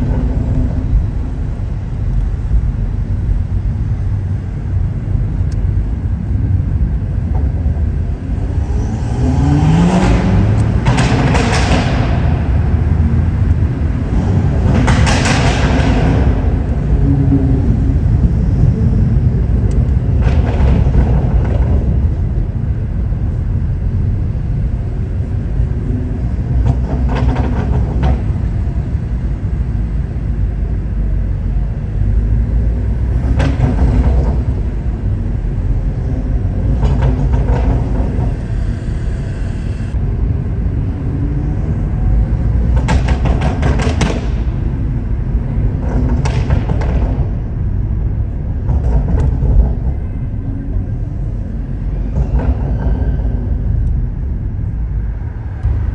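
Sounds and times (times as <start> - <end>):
car engine and exhaust drone: 0.0 - 55.9
exhaust crackles: 0.0 - 55.9.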